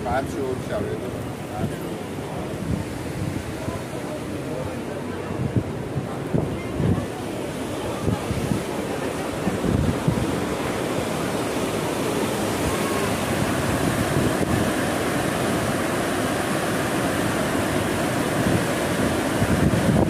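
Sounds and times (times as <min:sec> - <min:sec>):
river rushing through sluices: 0:00.0 - 0:20.0.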